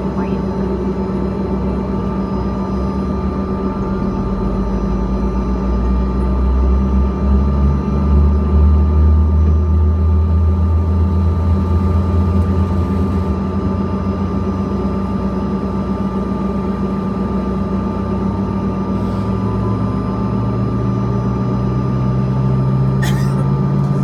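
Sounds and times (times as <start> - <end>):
jet cabin hum: 0.0 - 8.5, 9.2 - 24.0
jet engine high whine: 0.0 - 24.0.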